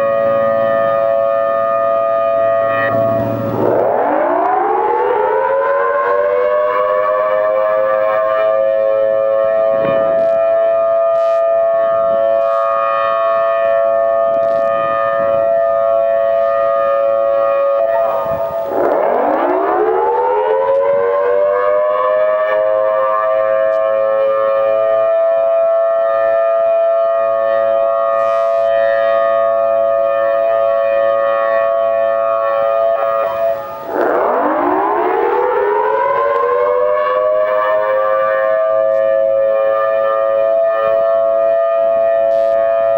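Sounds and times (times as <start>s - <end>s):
outdoor warning siren wailing: 0.0s - 42.9s.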